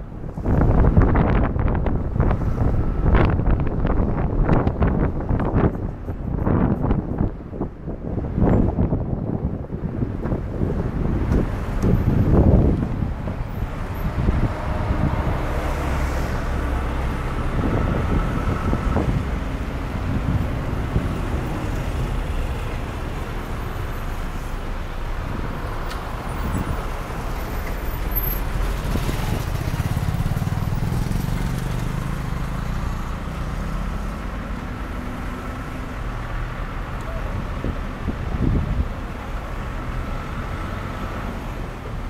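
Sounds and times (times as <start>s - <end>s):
car engine and tyres rumbling: 0.0s - 42.0s
vehicles passing: 0.0s - 42.0s.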